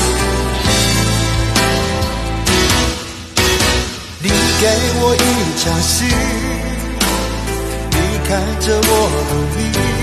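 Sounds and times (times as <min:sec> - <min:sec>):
pop ballad full band: 0:00.0 - 0:10.0.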